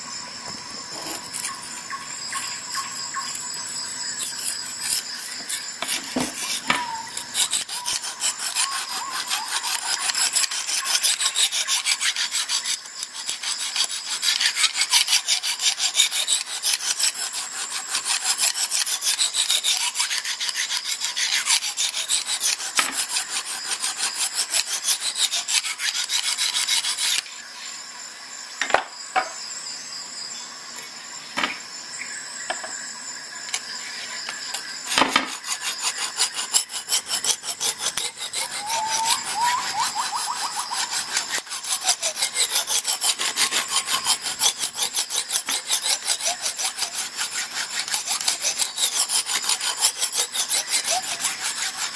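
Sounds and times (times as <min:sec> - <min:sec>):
sharpening stone rasping on knife: 0:00.9 - 0:27.4, 0:34.2 - 0:51.9.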